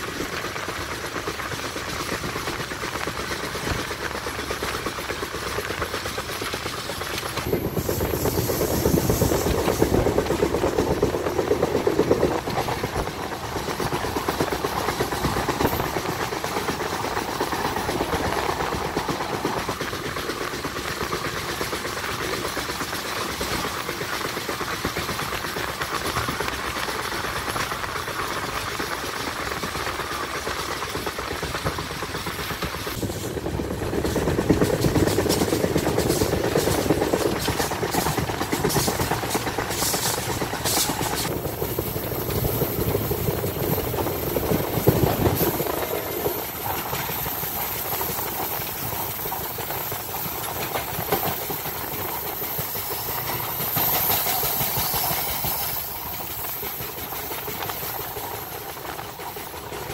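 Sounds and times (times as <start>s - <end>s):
train wheels and air rushing: 0.0s - 59.9s.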